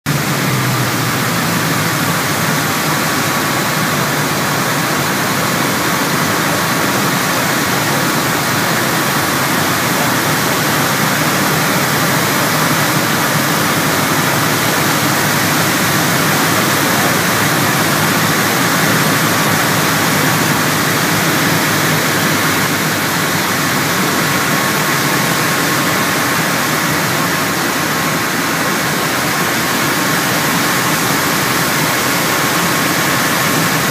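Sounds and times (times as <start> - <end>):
aircraft cabin engine drone: 0.1 - 33.9.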